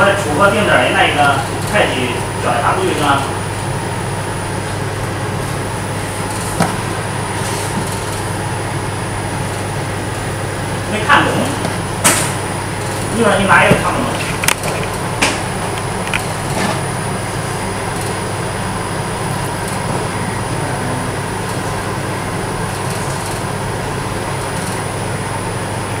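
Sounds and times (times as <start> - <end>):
machine hum with hiss: 0.0 - 26.0.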